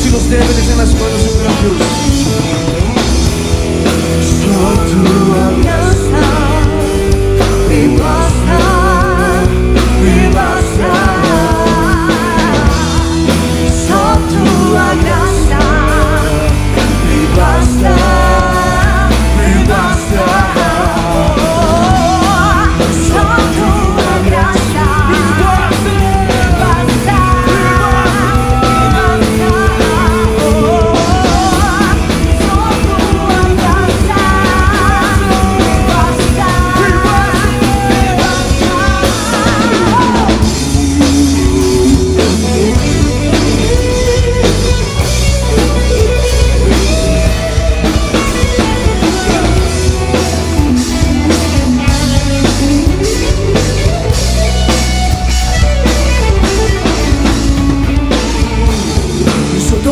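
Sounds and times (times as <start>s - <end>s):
bass: 0.0s - 59.9s
drum kit: 0.0s - 59.9s
wavering melodic lead line: 0.0s - 59.9s.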